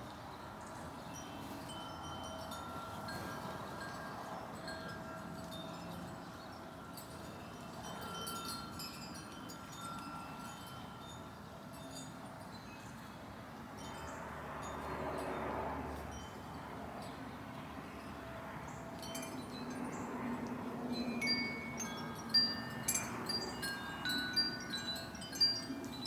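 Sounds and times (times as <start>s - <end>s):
wind chimes ringing: 1.0s - 15.4s, 16.0s - 26.0s.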